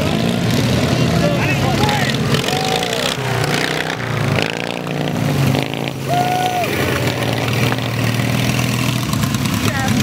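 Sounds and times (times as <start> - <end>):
lawn mower engines running: 0.0 - 10.0.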